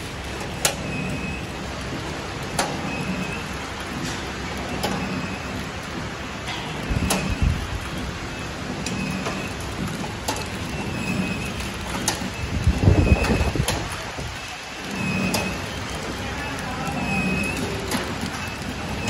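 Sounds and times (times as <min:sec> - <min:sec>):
packing machine hiss and whir: 0:00.0 - 0:19.0.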